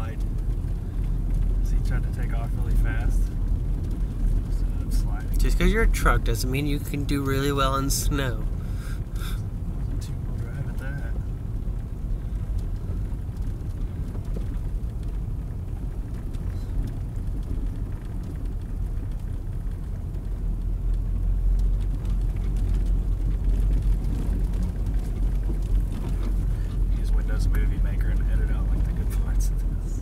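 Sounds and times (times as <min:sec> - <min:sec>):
car driving on snow: 0:00.0 - 0:30.0.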